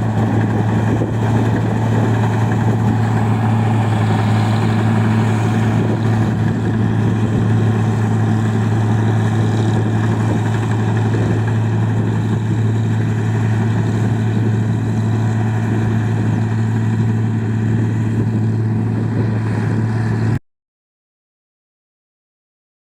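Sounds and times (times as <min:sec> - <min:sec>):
rice milling machine humming: 0:00.0 - 0:20.4.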